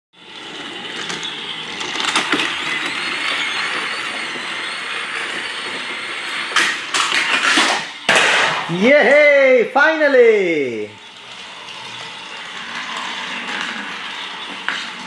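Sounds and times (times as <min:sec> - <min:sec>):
toy train motor whirring: 0:00.2 - 0:15.0.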